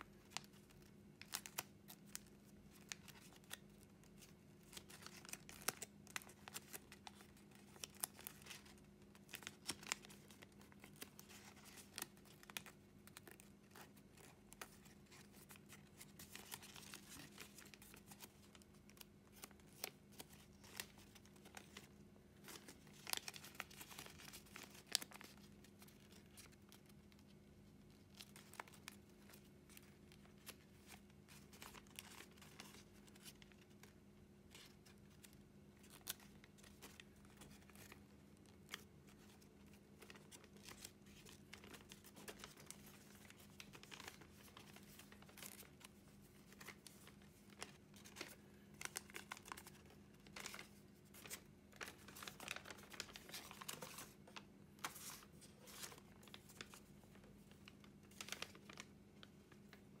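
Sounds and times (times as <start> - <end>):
faint steady hum: 0.0 - 60.0
paper crinkling and crackling: 0.0 - 60.0.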